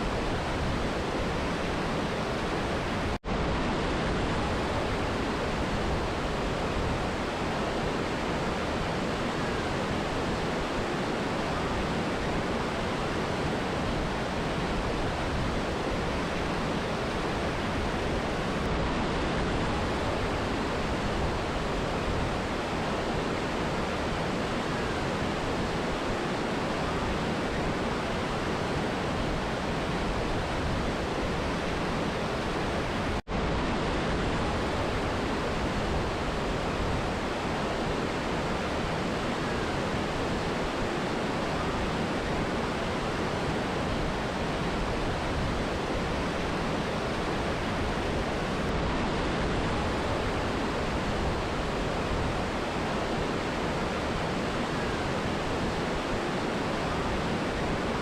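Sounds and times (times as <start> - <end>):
rushing river and waterfall: 0.0 - 58.0.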